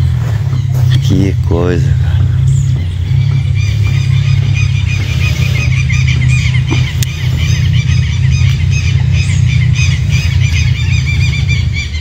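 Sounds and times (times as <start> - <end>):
birds chirping: 0.0 - 12.0
low rumble: 0.0 - 12.0.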